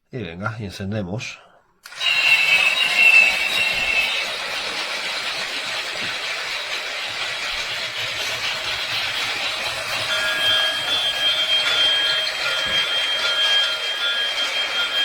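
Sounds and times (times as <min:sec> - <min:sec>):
toy train motor whirring hiss: 0:01.8 - 0:15.0.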